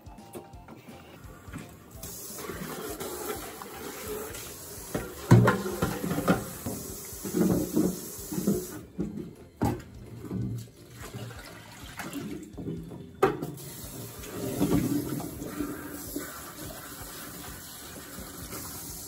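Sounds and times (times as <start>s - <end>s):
tap water running: 1.4s - 9.0s, 9.7s - 19.0s.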